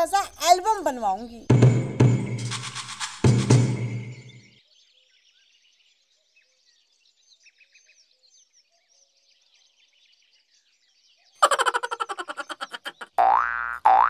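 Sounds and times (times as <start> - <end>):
small birds chirping: 0.0 - 3.2, 4.1 - 14.0.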